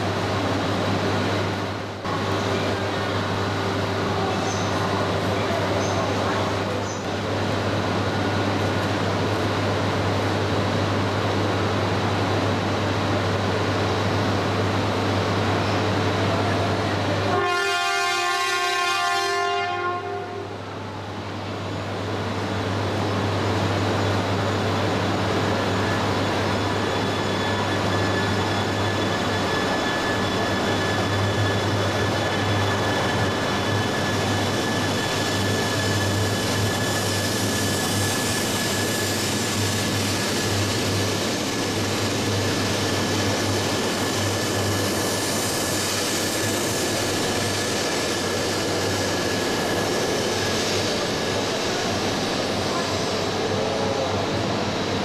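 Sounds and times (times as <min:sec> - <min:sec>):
train rushing and rumbling past: 0:00.0 - 0:55.0.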